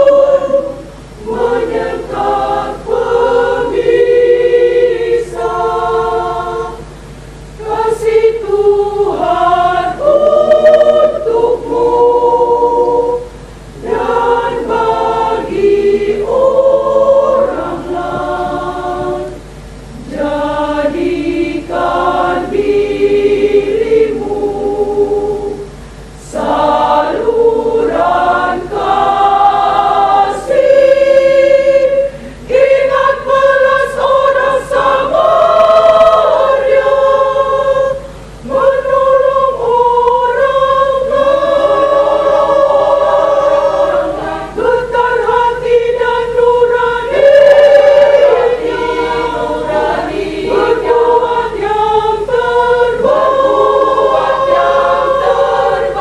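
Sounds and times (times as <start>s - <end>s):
women's choir singing a hymn: 0.0s - 56.0s.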